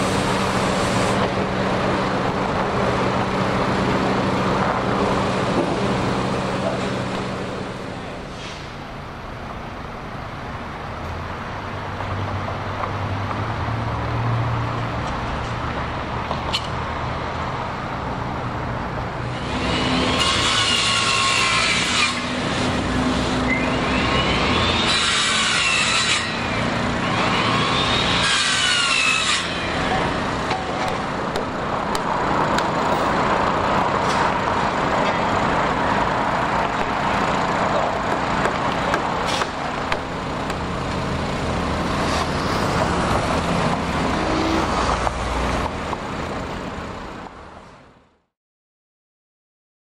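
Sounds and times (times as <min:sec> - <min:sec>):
heavy machinery: 0:00.0 - 0:09.6, 0:17.6 - 0:48.1
street traffic: 0:00.0 - 0:48.4.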